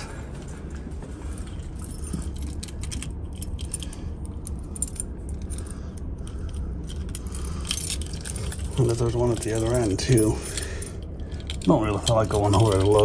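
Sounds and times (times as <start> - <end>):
low background hum: 0.0 - 13.0
small metal objects jingling: 1.3 - 13.0.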